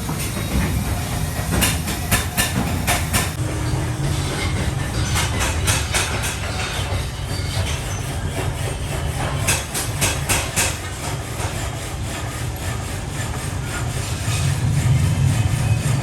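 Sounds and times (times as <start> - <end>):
heavy machinery droning: 0.0 - 9.5, 12.0 - 16.0.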